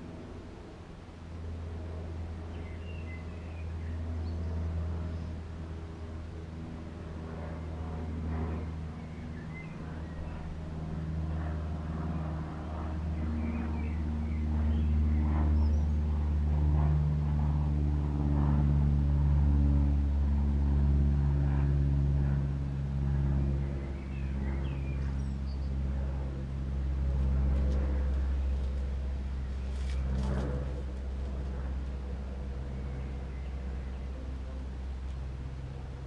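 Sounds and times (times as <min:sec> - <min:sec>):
low motor hum: 0:00.0 - 0:36.0.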